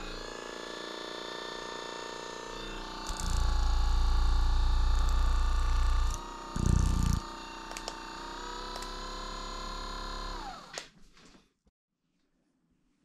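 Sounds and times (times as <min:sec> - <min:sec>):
massage gun motor whine: 0:00.0 - 0:10.9.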